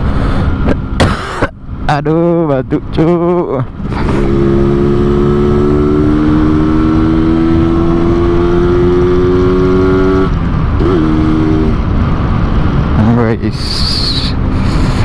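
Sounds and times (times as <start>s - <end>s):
two-stroke motorcycle engine growling: 2.6s - 15.0s.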